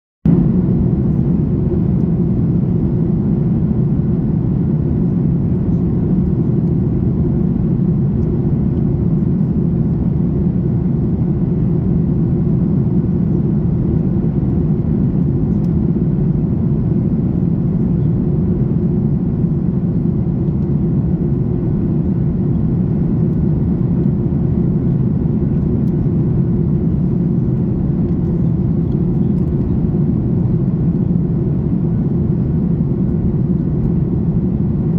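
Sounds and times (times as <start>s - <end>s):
airplane cabin engine roar: 0.3s - 34.9s.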